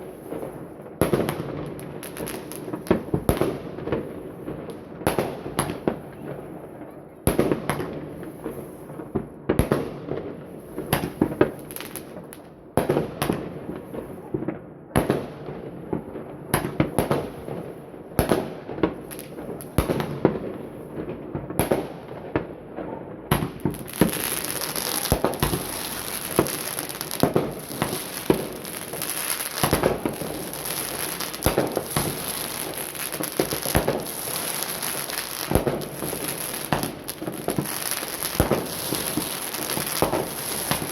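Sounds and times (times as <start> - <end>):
dense fireworks crackling: 0.0 - 40.9
fireworks bangs: 0.0 - 40.9.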